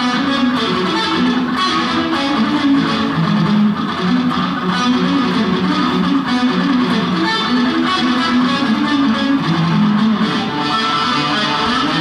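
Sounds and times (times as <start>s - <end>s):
electric guitar playing: 0.0s - 12.0s.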